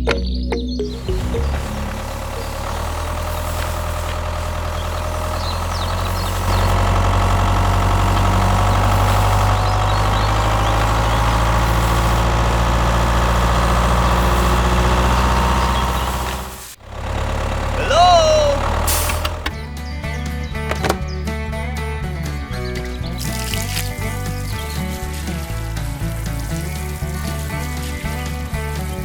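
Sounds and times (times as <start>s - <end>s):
engine running steadily: 0.0s - 19.9s, 23.0s - 29.0s.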